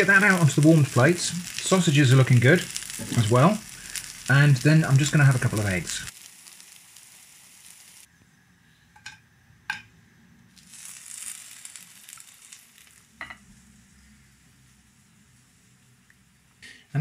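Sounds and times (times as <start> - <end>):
food sizzling in frying pan: 0.0 - 8.1, 10.5 - 16.6.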